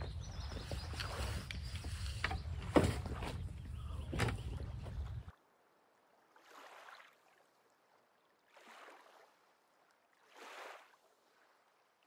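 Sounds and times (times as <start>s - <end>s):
small waves lapping on shore: 0.2s - 12.0s.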